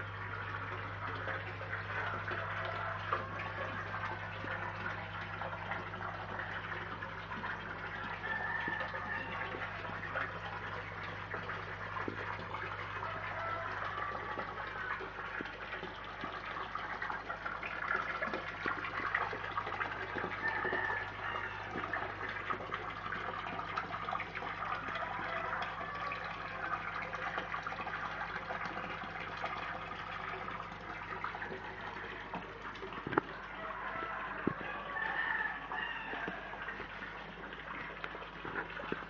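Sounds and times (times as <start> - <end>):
low steady hum: 0.0 - 39.0
water splashing and bubbling: 0.0 - 39.0.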